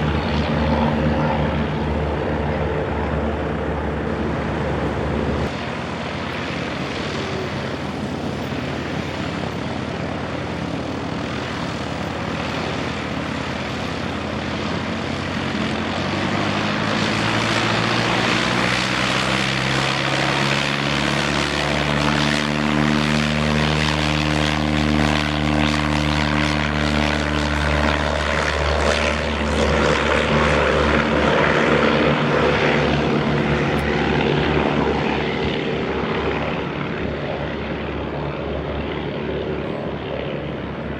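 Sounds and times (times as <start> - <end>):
propeller airplane passing: 0.0 - 40.9.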